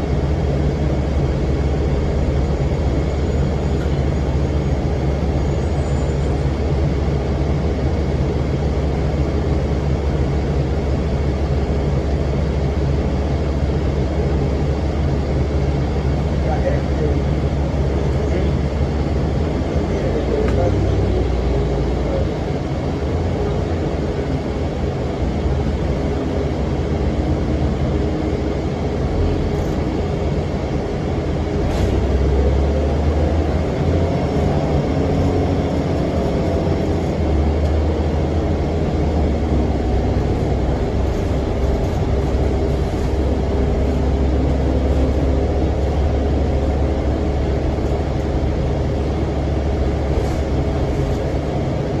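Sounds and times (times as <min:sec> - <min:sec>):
bus diesel engine drone: 0:00.0 - 0:52.0
engine cooling fan: 0:00.0 - 0:52.0.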